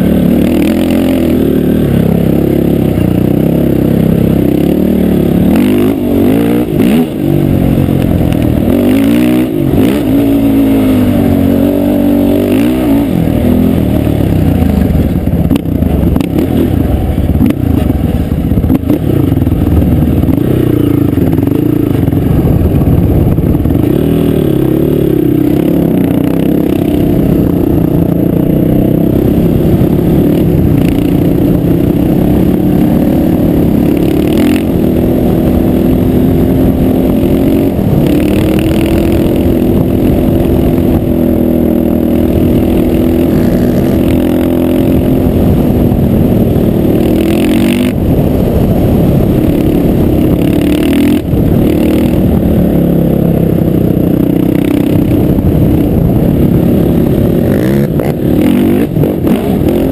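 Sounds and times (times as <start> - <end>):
quad engines revving: 0.0 - 19.6, 23.6 - 59.9.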